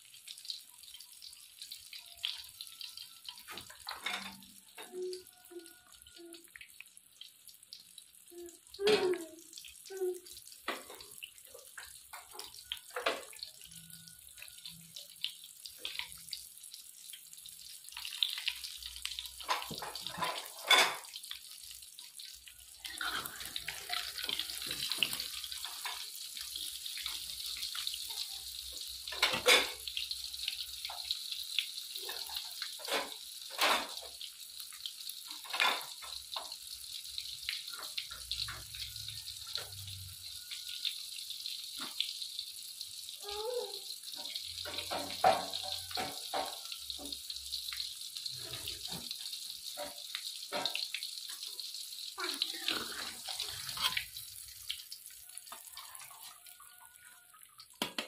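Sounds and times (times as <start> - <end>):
bread sizzling in a pan: 0.0 - 57.8.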